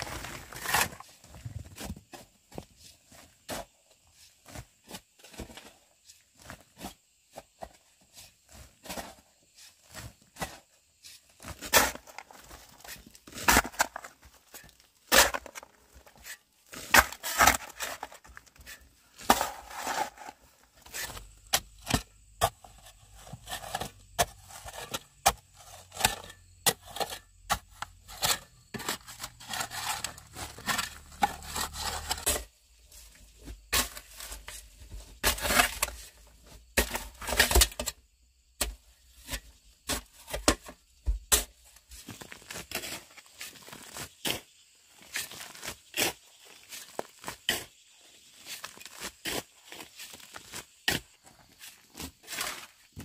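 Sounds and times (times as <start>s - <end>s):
soil and stone chips falling: 0.0s - 3.7s, 8.5s - 38.0s, 38.6s - 53.0s
shovel scraping rock and earth: 0.0s - 38.0s, 38.6s - 53.0s.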